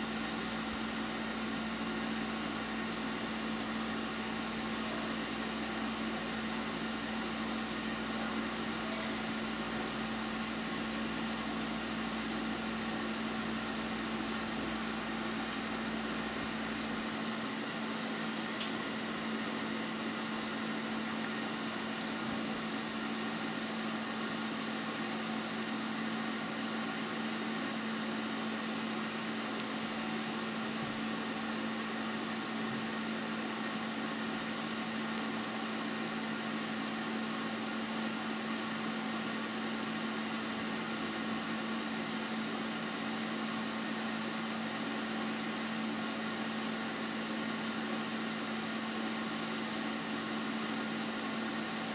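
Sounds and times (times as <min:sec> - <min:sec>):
machine hum: 0:00.0 - 0:51.9.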